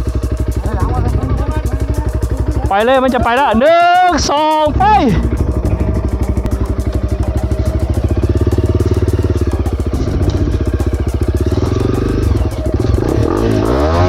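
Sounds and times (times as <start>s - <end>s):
dirt bike engine revving hard: 0.0s - 14.0s.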